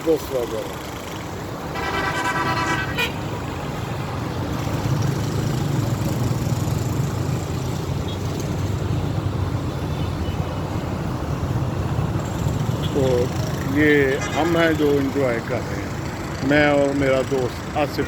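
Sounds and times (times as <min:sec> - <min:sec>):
motor vehicle rumble: 0:00.0 - 0:18.0
road noise: 0:00.0 - 0:18.0.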